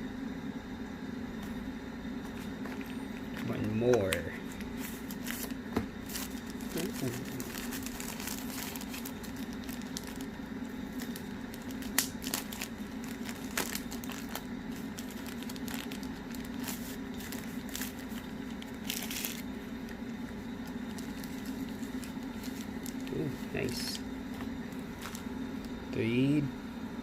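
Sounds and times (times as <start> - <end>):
plastic packaging crinkling: 2.3 - 25.8.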